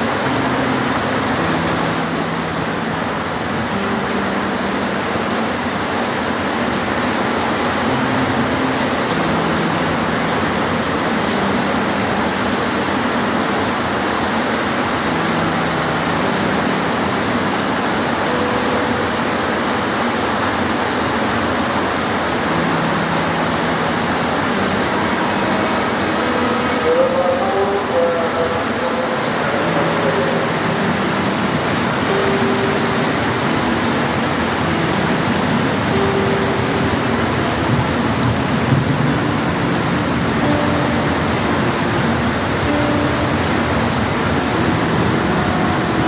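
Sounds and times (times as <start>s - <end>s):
heavy rain: 0.0s - 46.0s.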